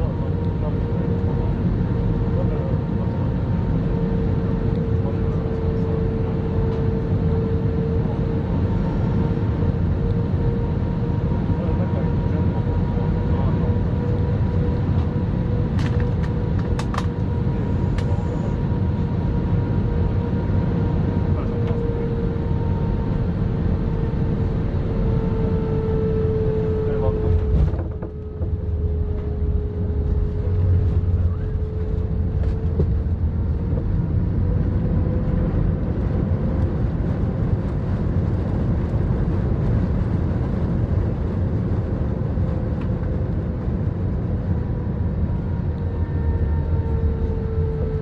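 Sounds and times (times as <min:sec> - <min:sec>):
jet engines humming: 0:00.0 - 0:48.0.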